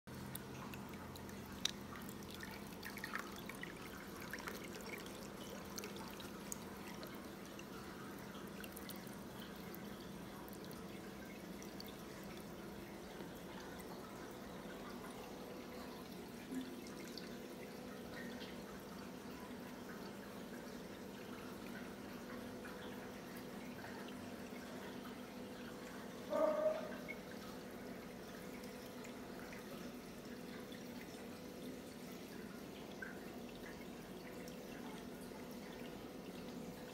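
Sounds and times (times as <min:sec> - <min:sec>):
faint steady hum: 0:00.1 - 0:36.9
water drips and splashes: 0:00.1 - 0:36.9
water flowing and trickling: 0:00.1 - 0:36.9.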